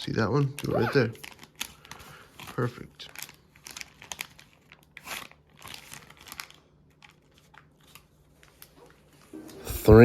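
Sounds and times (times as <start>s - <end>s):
packaging crinkling: 0.6s - 9.4s.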